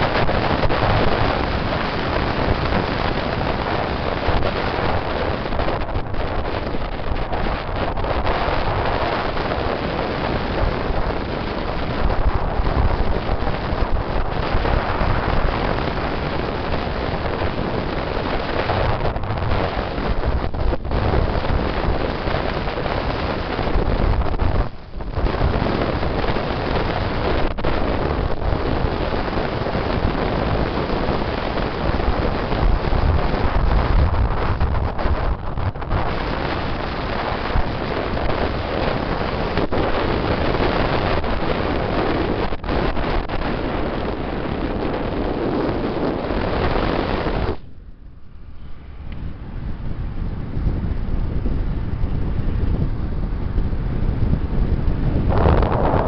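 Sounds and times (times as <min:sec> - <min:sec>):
road and engine noise: 0:00.0 - 0:56.0
wind buffeting microphone: 0:00.0 - 0:56.0.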